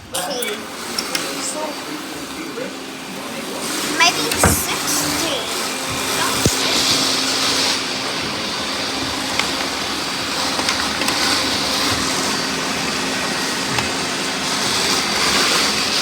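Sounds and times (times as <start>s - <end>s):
robot vacuums whirring: 0.8s - 16.0s.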